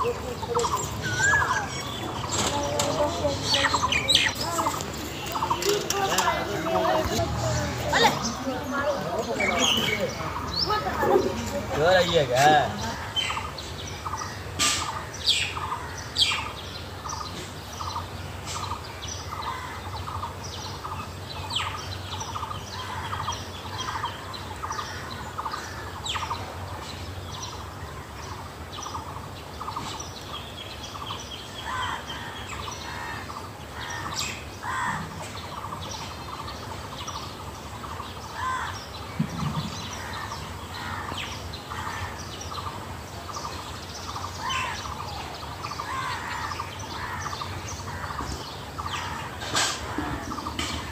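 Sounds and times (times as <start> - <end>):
birds chirping and calling: 0.0 - 50.9.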